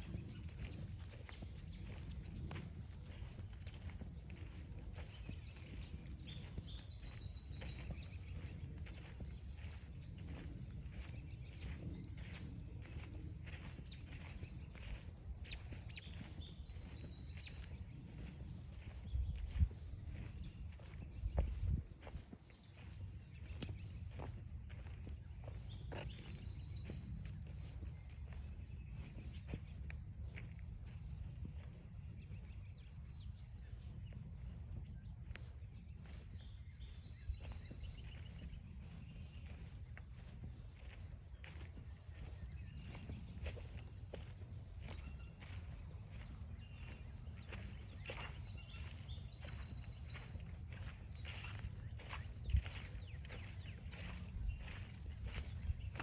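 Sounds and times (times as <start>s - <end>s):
birds chirping: 0.0s - 56.0s
footsteps crunching on a trail: 0.0s - 56.0s
songbirds calling: 0.0s - 56.0s.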